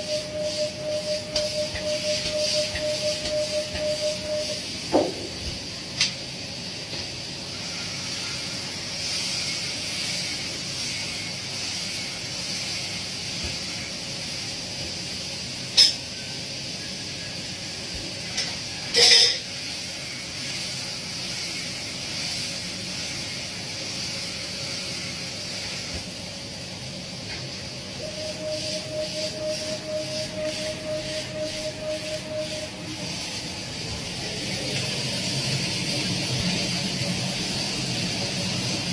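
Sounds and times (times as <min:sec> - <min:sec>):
stir-fry sizzling in a wok: 0:00.0 - 0:38.9.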